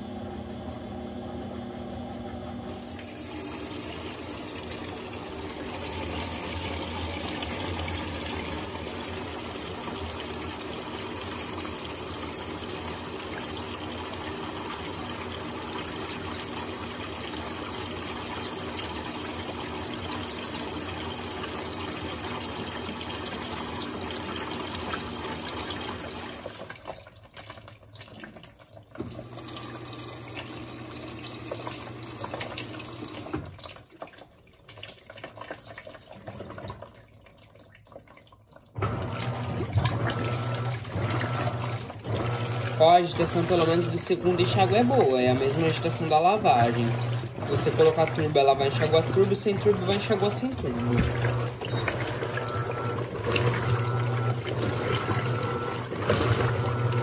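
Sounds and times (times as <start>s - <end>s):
water gushing into washing machine: 2.6s - 57.0s.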